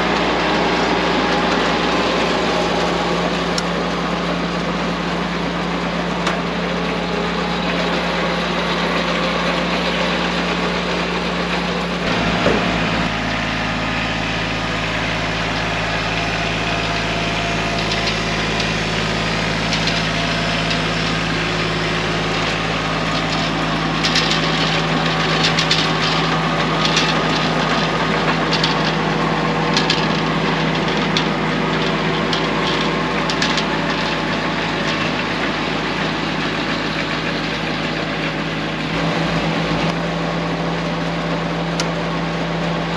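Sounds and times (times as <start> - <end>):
metallic machinery clatter: 0.0 - 40.0
tractor engine running: 0.0 - 42.9.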